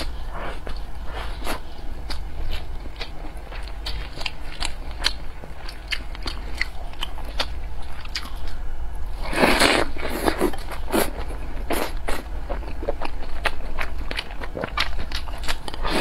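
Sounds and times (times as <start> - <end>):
person chewing food: 0.0 - 8.6, 9.2 - 16.0.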